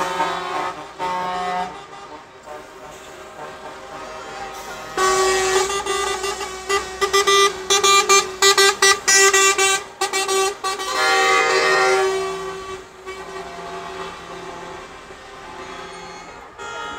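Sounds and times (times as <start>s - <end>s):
truck horns honking: 0.0s - 16.9s.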